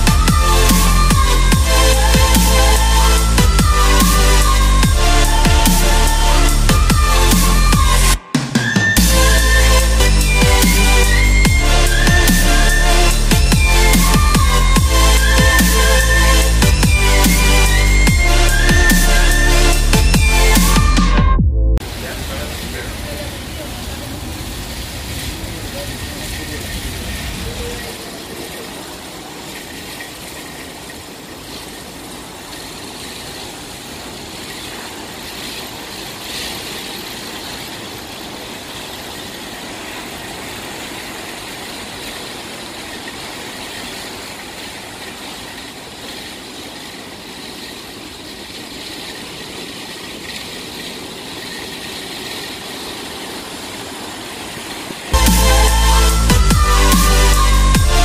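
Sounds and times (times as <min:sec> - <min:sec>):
water rushing past hull: 0:00.0 - 0:21.1, 0:21.8 - 0:58.0
ferry engine running: 0:00.0 - 0:58.0.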